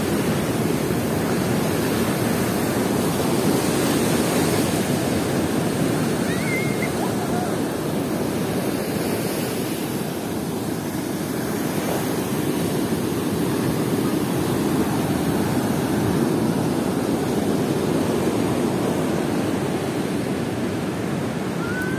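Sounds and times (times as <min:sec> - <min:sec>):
heavy ocean surf breaking: 0:00.0 - 0:21.9.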